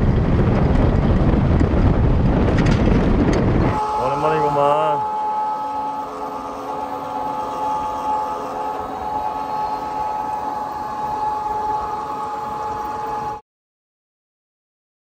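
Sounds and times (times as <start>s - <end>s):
go-kart engine whine: 0.0s - 13.4s
wind on microphone: 0.0s - 13.4s.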